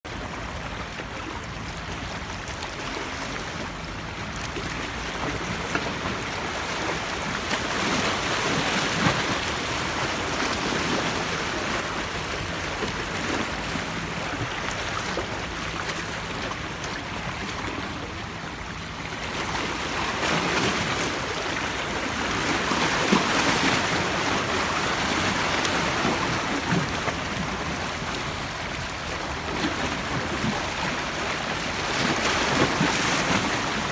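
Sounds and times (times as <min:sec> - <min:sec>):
sea waves washing onto shore: 0:00.1 - 0:33.9.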